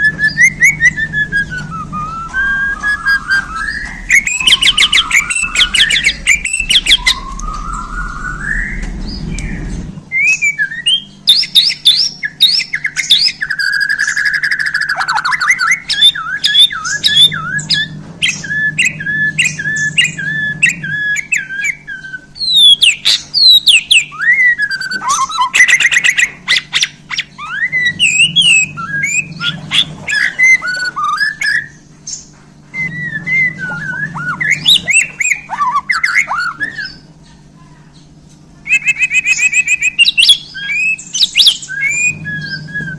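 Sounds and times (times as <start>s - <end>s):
songbird singing whistled phrases: 0.0s - 37.1s, 38.6s - 42.9s.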